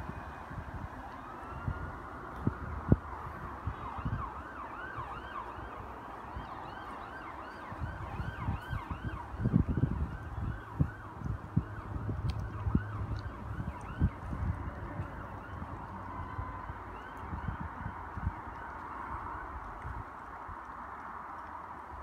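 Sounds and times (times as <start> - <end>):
distant siren: 0.0 - 22.0.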